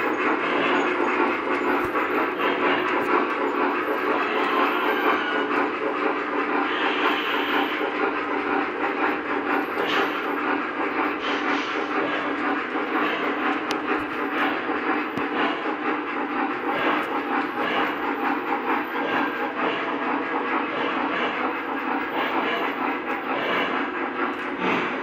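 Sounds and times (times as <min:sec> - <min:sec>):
electronic steam sound effects: 0:00.0 - 0:08.2, 0:08.8 - 0:25.0
model train wheels rumbling: 0:00.0 - 0:25.0.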